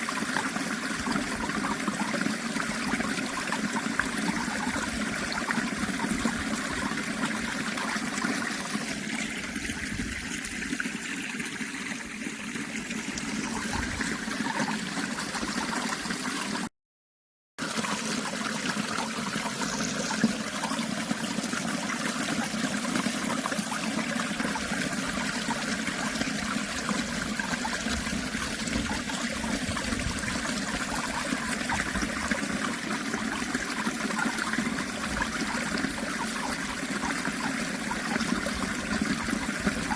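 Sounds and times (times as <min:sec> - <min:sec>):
water trickling and gurgling: 0:00.0 - 0:16.7, 0:17.6 - 0:39.9.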